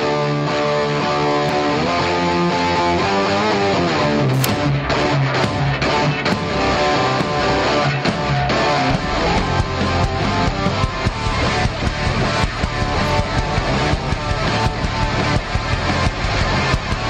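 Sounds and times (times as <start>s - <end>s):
rock music with strummed guitar: 0.0s - 17.0s.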